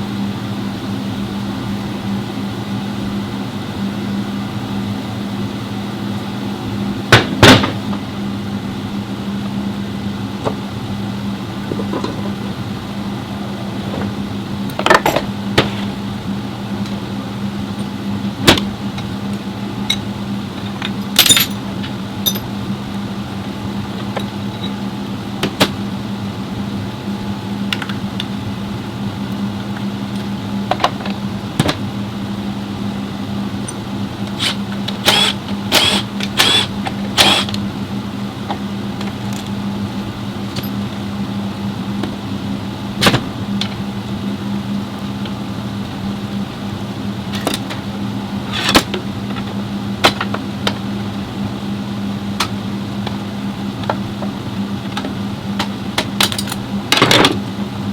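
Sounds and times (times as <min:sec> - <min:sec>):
mechanical hum: 0:00.0 - 0:57.9.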